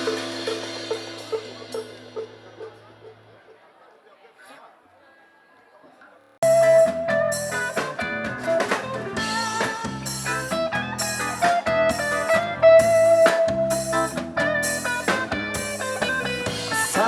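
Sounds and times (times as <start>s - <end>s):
drum kit beat: 0.0s - 3.2s, 6.4s - 17.0s
plucked guitar: 0.0s - 3.6s, 6.4s - 17.0s.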